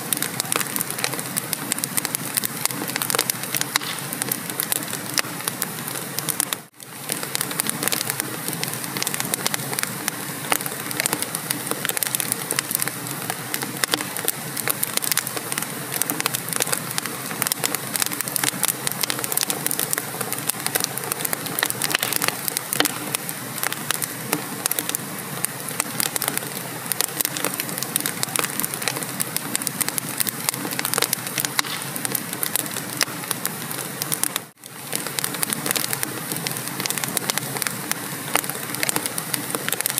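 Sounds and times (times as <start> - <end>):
fire hiss: 0.0 - 39.9
wood fire crackling and popping: 0.0 - 39.9.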